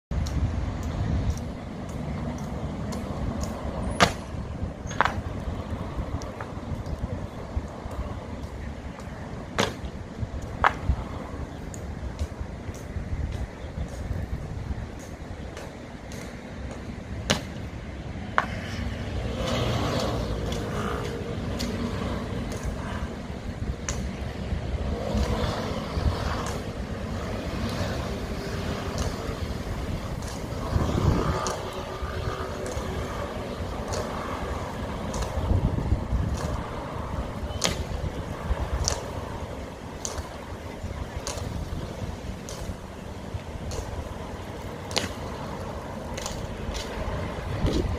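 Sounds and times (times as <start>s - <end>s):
outdoor traffic rumble: 0.1s - 47.9s.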